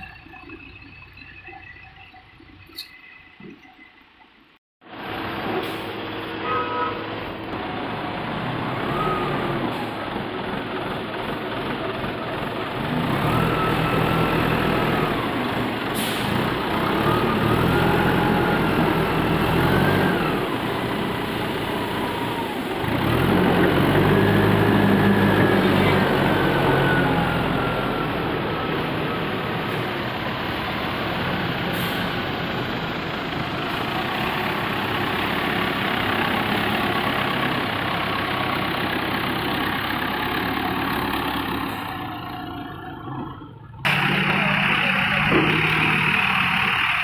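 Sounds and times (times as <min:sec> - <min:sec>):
forklift engine revving: 0:07.0 - 0:47.0.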